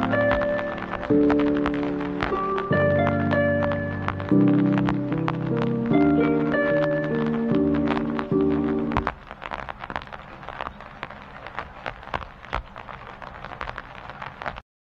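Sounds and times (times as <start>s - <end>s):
light hiss: 0.0s - 14.6s
soft crackle of clicks: 0.0s - 14.6s.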